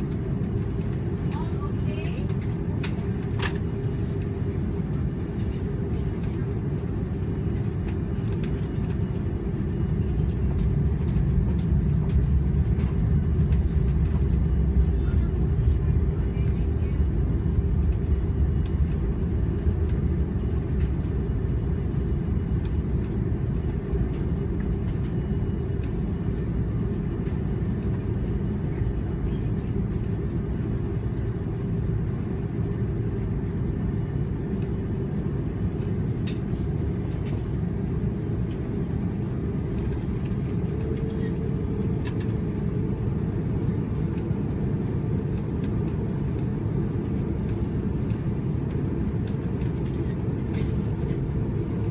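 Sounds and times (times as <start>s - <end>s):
airplane engines rumbling: 0.0s - 51.9s.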